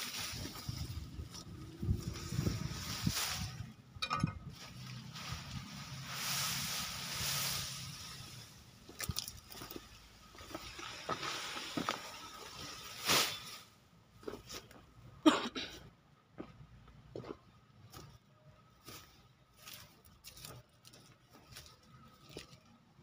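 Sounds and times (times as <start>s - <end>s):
rustling of grass stalks: 0.0s - 14.9s, 18.8s - 23.0s.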